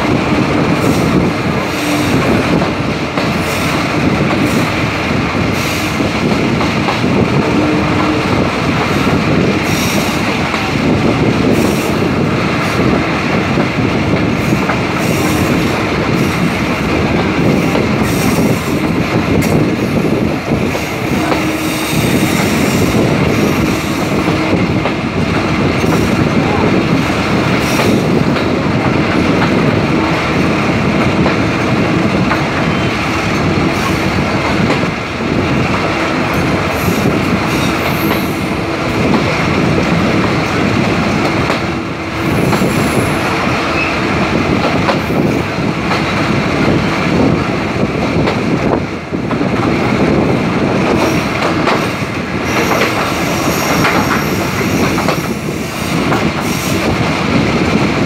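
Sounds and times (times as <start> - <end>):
train wheel and rail clatter: 0.0 - 58.0.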